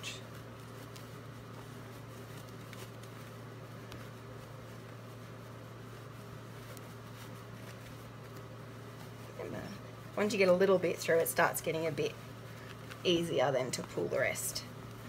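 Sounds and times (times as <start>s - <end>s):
fabric rustling: 0.0s - 15.0s
low hum: 0.0s - 15.0s.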